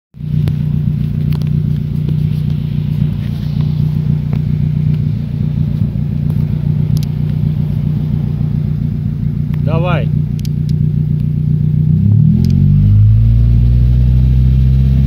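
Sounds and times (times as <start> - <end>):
car engine idling: 0.1 - 15.0.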